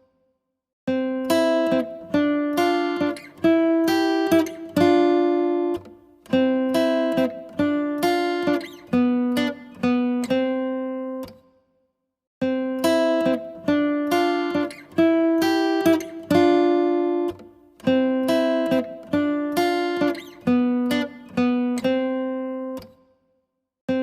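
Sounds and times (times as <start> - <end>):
plucked acoustic guitar: 0.9 - 11.5, 12.4 - 23.1.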